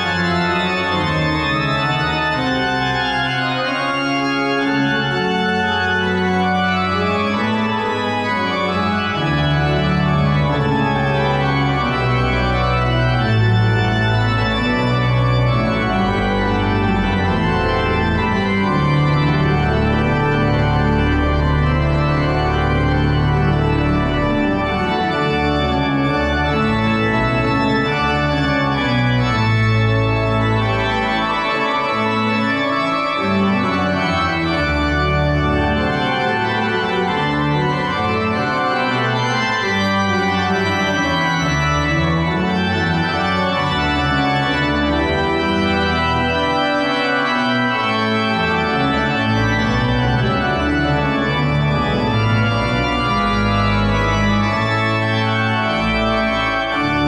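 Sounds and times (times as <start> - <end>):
organ pedal bass notes: 0.0 - 57.0
pipe organ chords: 0.0 - 57.0.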